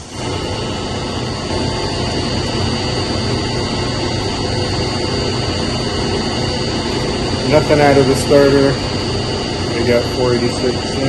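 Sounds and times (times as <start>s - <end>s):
thin high whine: 0.0s - 11.0s
water pumps droning: 0.0s - 11.0s.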